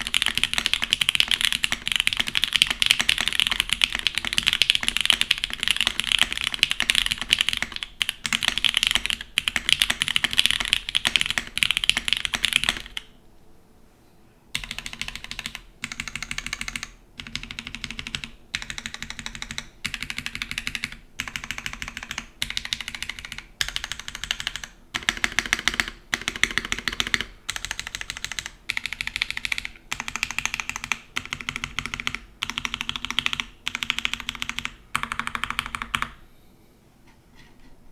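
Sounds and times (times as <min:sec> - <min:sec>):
mechanical keyboard typing: 0:00.0 - 0:13.1, 0:14.6 - 0:36.2.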